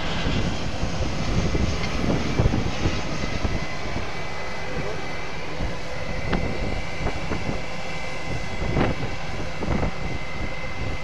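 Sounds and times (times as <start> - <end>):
jet engines with high whine: 0.0 - 11.0.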